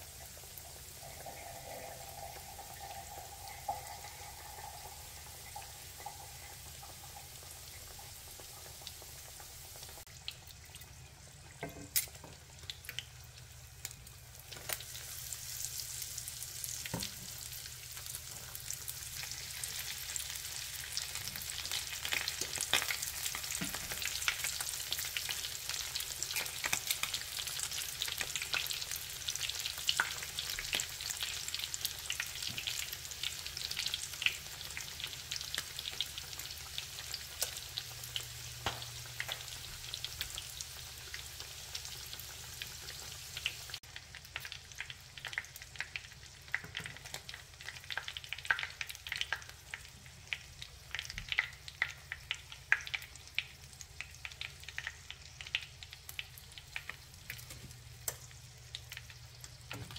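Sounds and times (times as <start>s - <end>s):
oil sizzling with pops: 0.0s - 59.9s.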